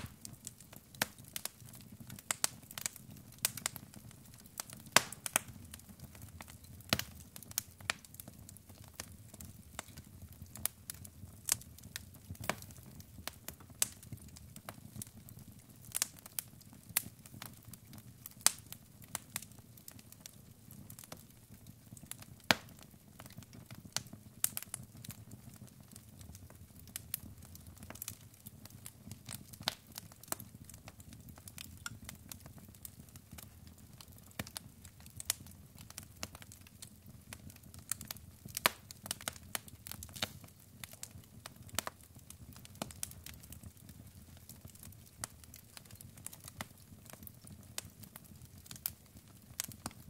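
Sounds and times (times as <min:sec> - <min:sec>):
logs crackling and popping: 0:00.0 - 0:50.0.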